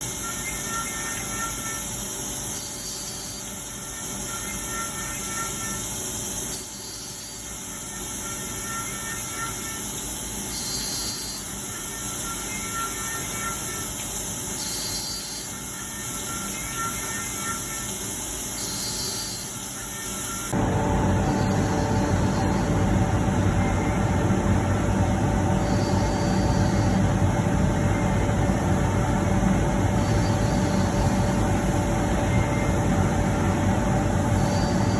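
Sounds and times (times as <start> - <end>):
faint whining tones: 0.0 - 34.9
machine cutting metal: 0.0 - 34.9.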